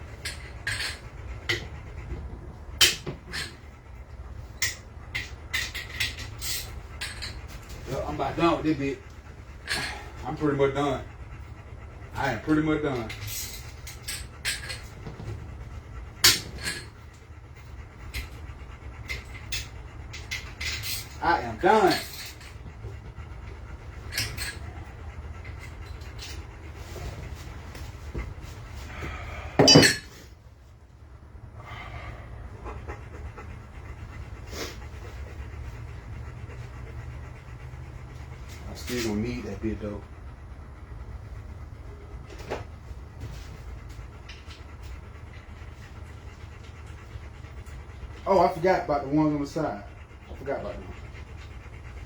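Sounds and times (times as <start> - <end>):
dog panting: 0.0 - 52.0
steady low hum: 0.0 - 52.0.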